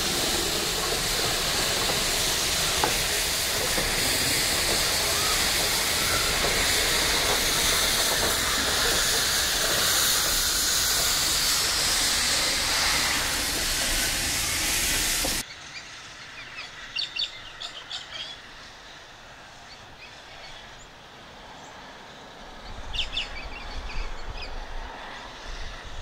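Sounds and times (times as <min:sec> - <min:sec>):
steam hissing from locomotive: 0:00.0 - 0:26.0.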